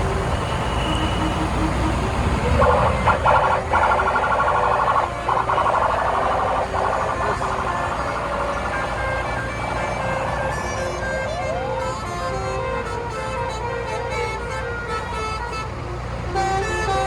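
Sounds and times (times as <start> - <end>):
low engine rumble: 0.0 - 17.0
multi-tone bus horn tune: 0.0 - 17.0.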